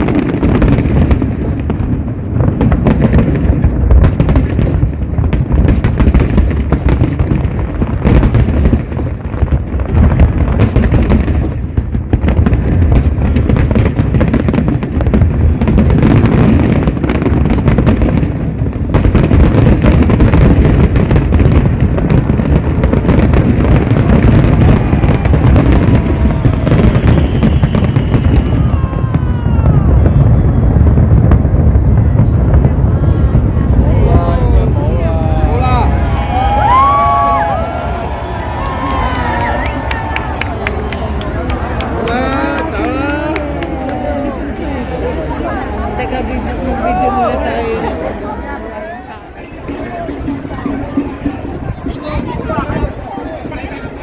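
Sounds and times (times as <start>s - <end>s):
whistling fireworks: 0.0s - 48.6s
fireworks bangs and crackles: 0.0s - 54.0s.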